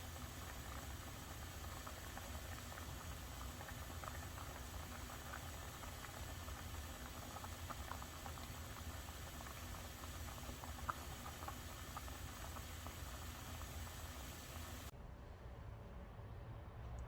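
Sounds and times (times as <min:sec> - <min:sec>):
soup bubbling in a pot: 0:00.0 - 0:15.0.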